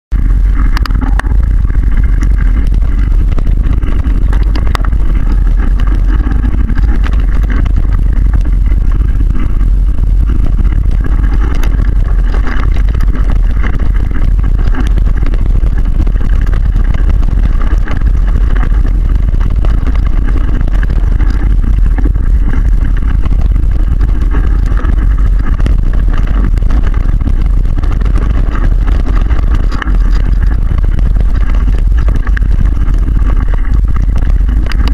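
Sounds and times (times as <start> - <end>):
wind rumble on microphone: 0.0 - 34.9
bike rattling over rough ground: 0.1 - 34.9.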